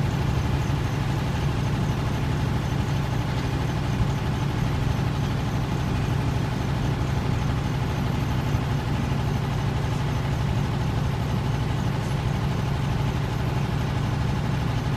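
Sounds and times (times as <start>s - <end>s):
heavy diesel engines droning: 0.0s - 14.9s.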